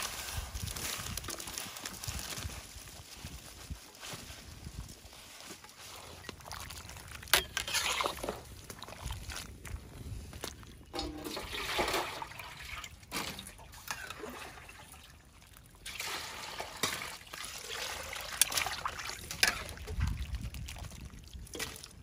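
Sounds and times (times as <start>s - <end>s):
water sloshing and trickling: 0.0s - 22.0s.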